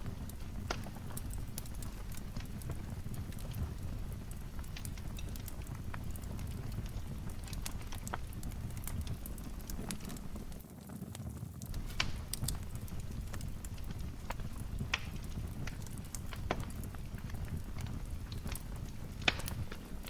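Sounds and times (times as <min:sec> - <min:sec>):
low rumble of burning logs: 0:00.0 - 0:20.0
wood fire popping and snapping: 0:00.0 - 0:20.0.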